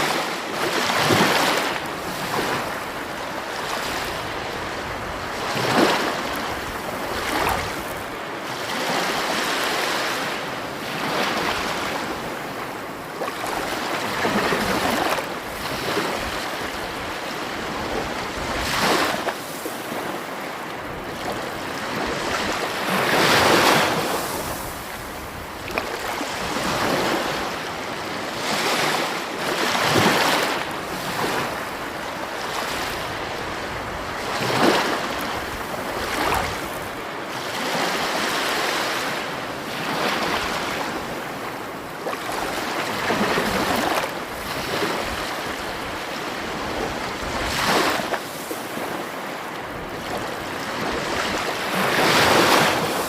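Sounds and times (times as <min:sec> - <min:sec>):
sea waves breaking: 0:00.0 - 0:53.0.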